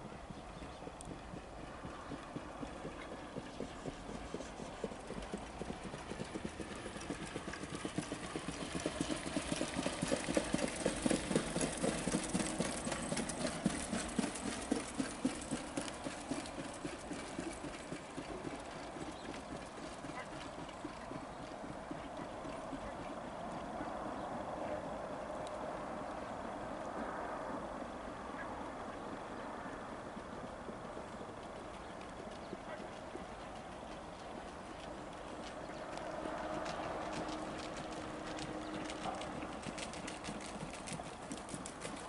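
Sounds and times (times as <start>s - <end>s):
rapid hoofbeats on dirt: 0.0s - 25.2s, 29.0s - 42.0s.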